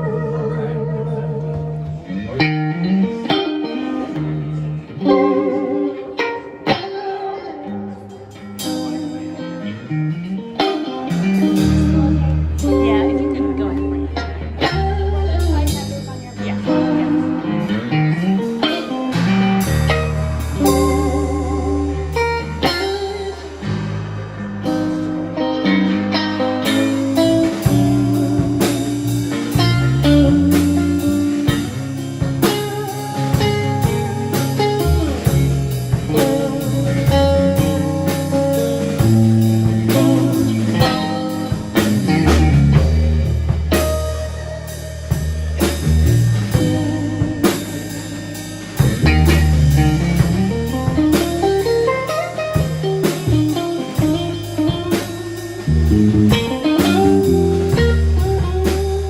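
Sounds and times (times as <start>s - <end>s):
bass guitar: 0.0s - 59.0s
drum kit: 0.0s - 59.0s
electric guitar lead: 0.0s - 59.0s.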